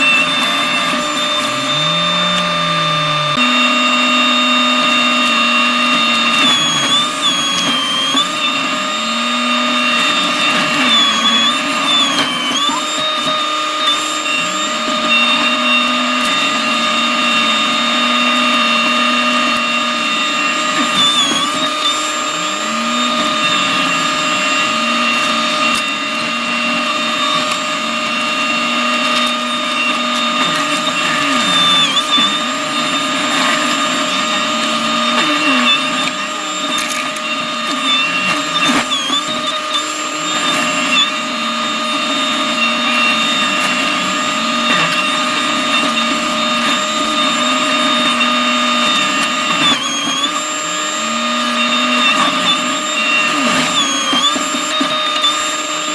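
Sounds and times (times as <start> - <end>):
mulching head high whine: 0.0 - 55.9
skid steer engine running: 0.0 - 55.9.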